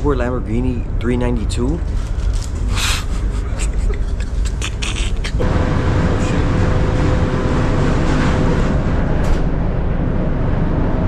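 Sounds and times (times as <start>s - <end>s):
ferry engine rumble: 0.0s - 11.0s.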